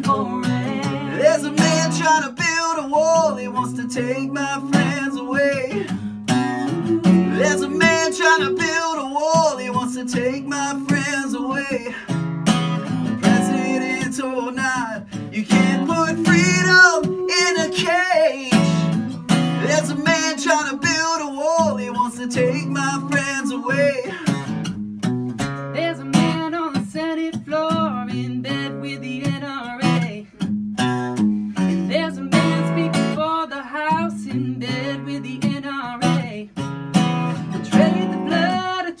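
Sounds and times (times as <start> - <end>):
man and woman singing: 0.0 - 12.2, 12.8 - 24.5, 25.7 - 30.3, 31.8 - 36.5, 37.6 - 39.0
acoustic guitar strumming: 0.0 - 39.0.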